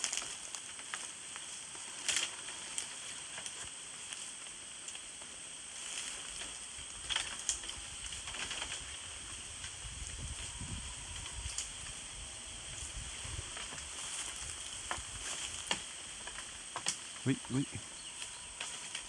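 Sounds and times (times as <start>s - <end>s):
bamboo stems creaking and cracking: 0.0s - 19.0s
steady hiss: 0.0s - 19.0s.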